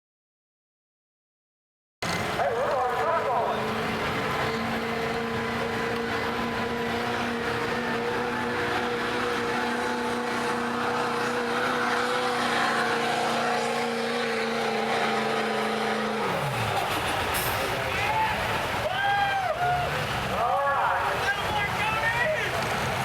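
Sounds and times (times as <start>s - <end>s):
diesel engine at high revs: 2.0s - 23.0s.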